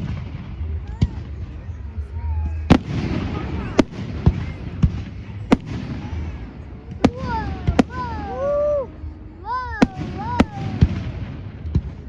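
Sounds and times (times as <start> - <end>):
fireworks bangs: 0.0 - 12.0
voices calling out: 1.1 - 11.3.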